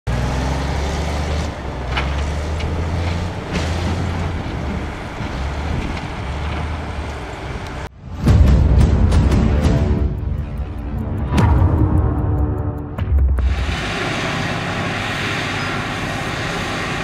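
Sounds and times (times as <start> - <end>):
diesel engine droning: 0.1 - 17.0.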